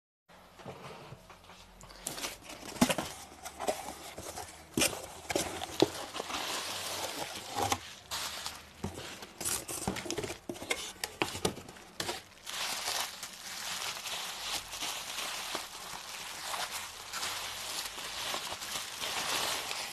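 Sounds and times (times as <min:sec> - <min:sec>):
bubble wrap crinkling: 0:01.9 - 0:19.9.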